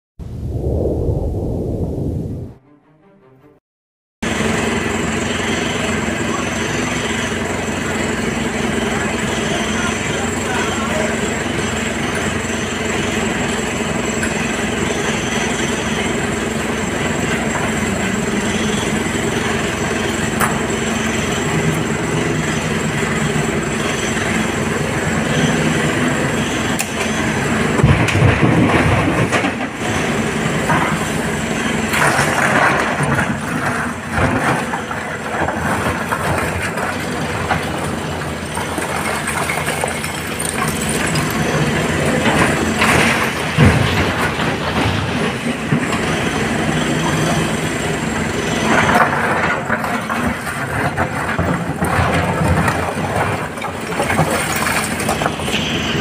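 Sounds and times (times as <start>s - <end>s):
excavator diesel engine running: 4.2s - 56.0s.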